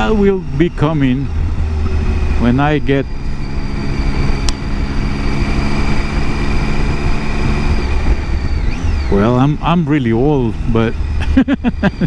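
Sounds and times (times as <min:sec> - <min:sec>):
motorcycle engine cruising: 0:00.0 - 0:12.0
wind rumbling on microphone: 0:00.0 - 0:12.0.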